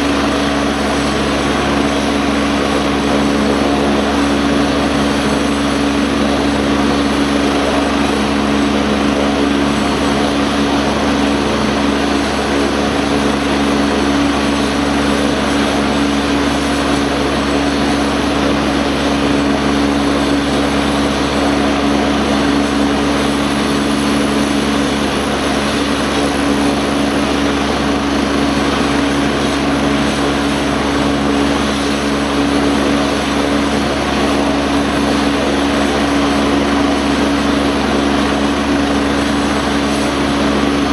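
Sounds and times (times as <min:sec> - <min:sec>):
helicopter turbine and rotor: 0:00.0 - 0:40.9.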